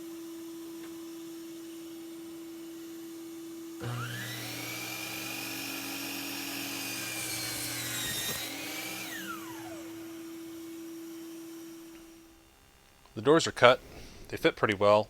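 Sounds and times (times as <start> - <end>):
table saw whine cutting plywood: 0.0 - 12.6.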